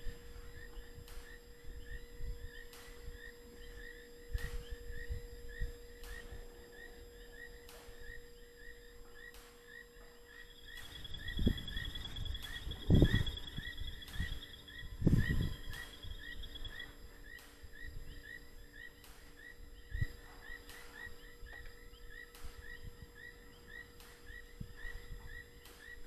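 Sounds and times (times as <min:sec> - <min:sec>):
high steady insect trill: 0:00.0 - 0:26.0
frog chirping: 0:00.5 - 0:26.0.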